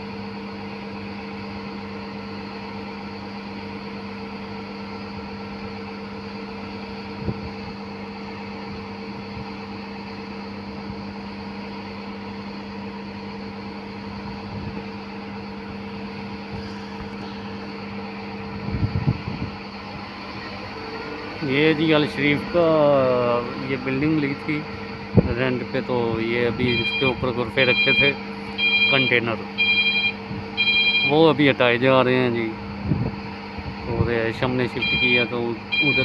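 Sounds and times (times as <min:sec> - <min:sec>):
diesel engine running: 0:01.0 - 0:36.0.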